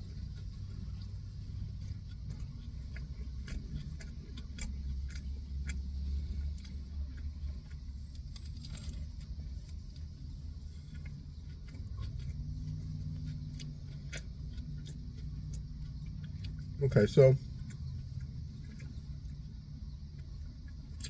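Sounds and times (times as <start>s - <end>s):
chewing with crunches: 0.0s - 21.0s.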